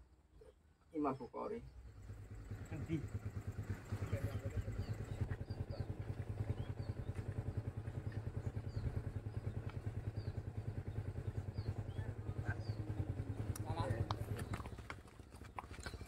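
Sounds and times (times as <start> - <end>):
small engine idling: 1.0 - 16.0.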